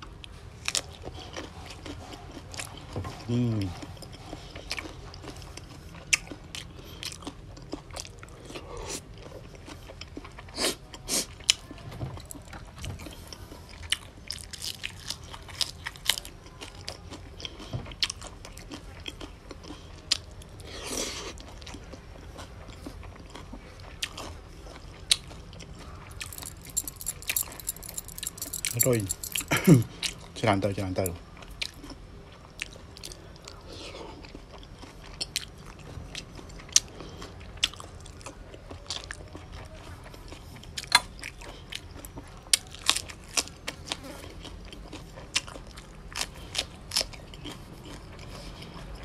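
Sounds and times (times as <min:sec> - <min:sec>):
man chewing crunchy food: 0:00.0 - 0:49.0.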